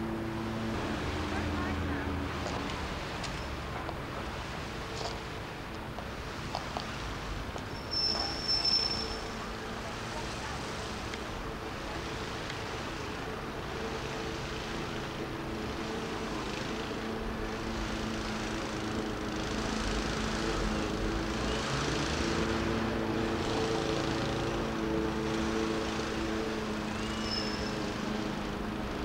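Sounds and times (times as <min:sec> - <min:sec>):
distant engine drone: 0:00.0 - 0:05.3, 0:09.2 - 0:29.0.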